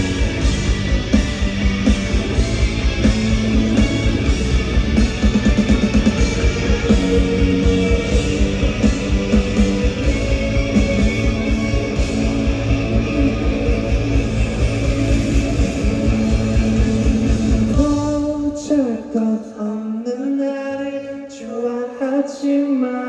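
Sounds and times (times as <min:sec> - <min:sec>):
steady drum beat: 0:00.0 - 0:18.8
live rock band playing: 0:00.0 - 0:19.0.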